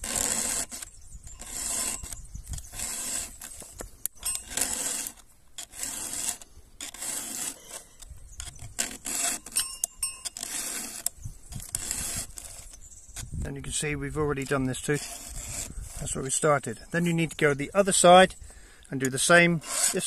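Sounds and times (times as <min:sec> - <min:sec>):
file rasping on chainsaw chain: 0:00.0 - 0:18.3, 0:19.0 - 0:20.0.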